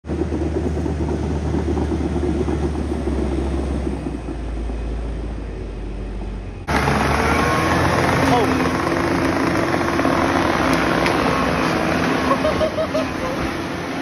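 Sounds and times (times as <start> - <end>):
bulldozer diesel engine rumbling: 0.0 - 14.0.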